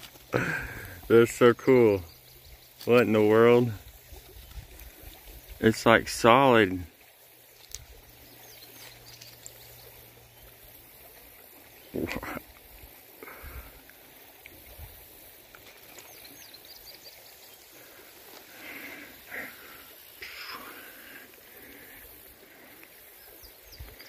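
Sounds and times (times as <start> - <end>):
outdoor background hiss: 0.0 - 4.2, 4.9 - 24.0.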